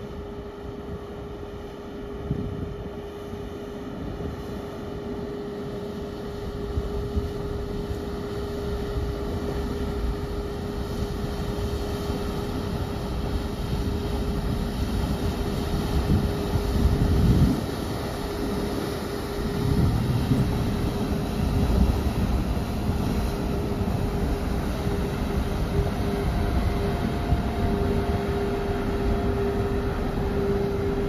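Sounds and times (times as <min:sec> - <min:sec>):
ship machinery rumbling: 0:05.6 - 0:31.0.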